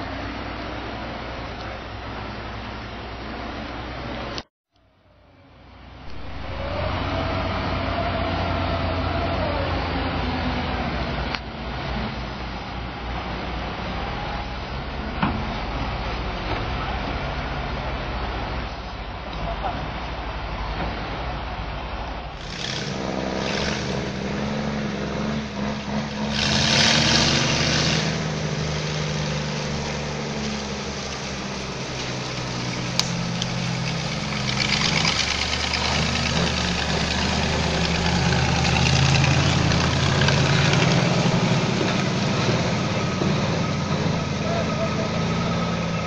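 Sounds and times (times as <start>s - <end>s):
diesel truck engine drone: 0.0s - 46.0s
rushing noise: 0.0s - 46.0s.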